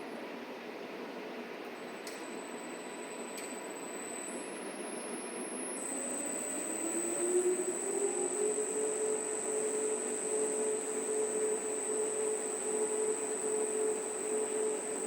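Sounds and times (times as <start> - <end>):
high-pitched whine: 2.3 - 15.0.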